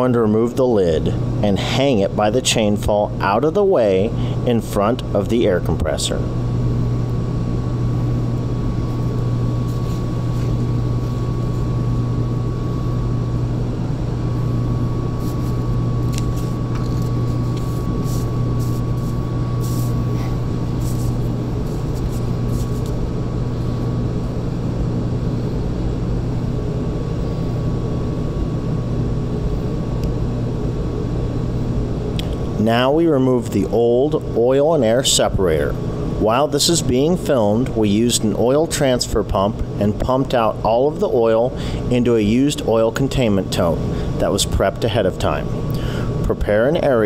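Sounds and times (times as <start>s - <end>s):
industrial machinery humming: 0.0s - 47.0s
thin constant whine: 0.0s - 47.0s.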